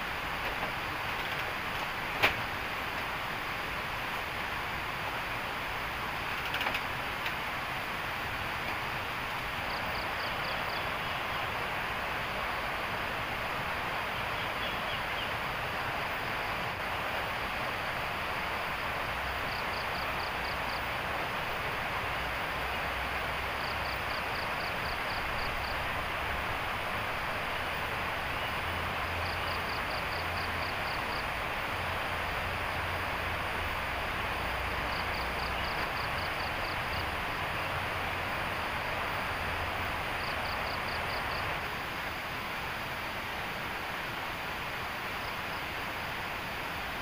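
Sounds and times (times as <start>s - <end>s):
steady rushing hiss: 0.0s - 47.0s.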